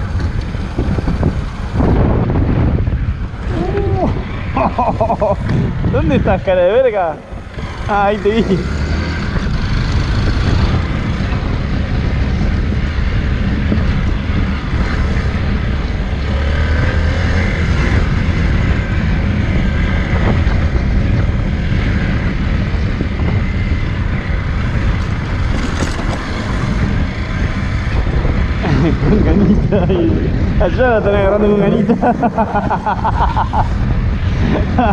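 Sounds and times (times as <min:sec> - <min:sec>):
motorcycle engine running: 0:00.0 - 0:34.9
wind on microphone: 0:00.0 - 0:34.9.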